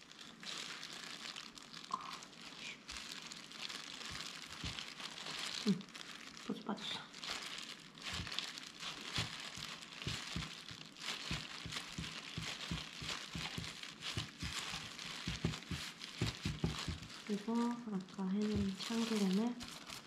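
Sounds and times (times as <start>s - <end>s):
plastic gloves crinkling: 0.0s - 20.0s.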